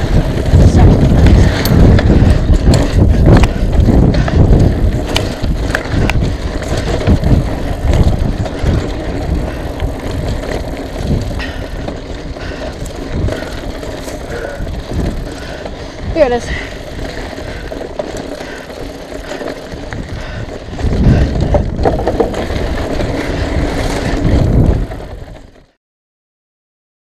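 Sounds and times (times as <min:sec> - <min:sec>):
bike knocks and rattles: 0:00.0 - 0:25.7
bike tyres rumbling on trail: 0:00.0 - 0:25.8.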